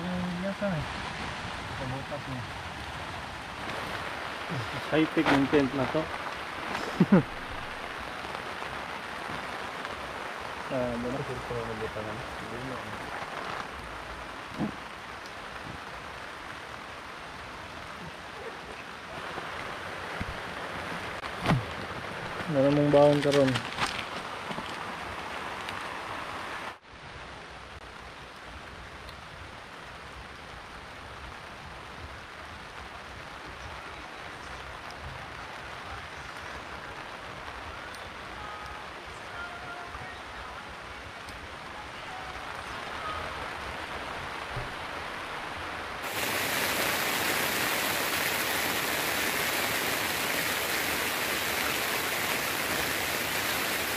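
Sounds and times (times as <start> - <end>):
dull rain hiss: 0.0 - 53.9
rain on a tarp: 0.0 - 53.9.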